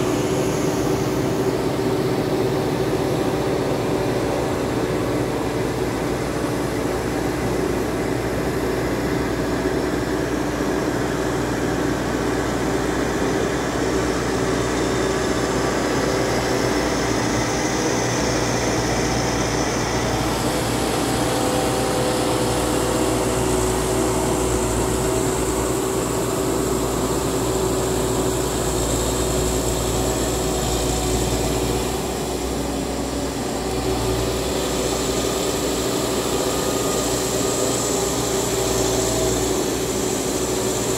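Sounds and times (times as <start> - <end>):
tractor engines droning: 0.0 - 40.9.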